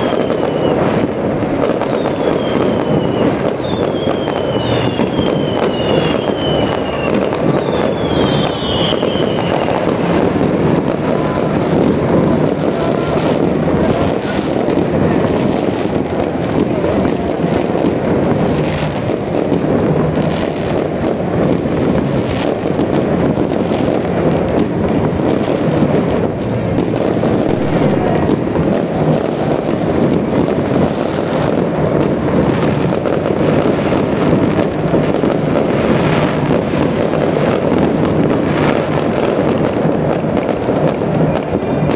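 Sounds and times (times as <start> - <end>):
falling firework whistles: 0.0 - 41.9
fireworks bangs and crackles: 0.0 - 41.9.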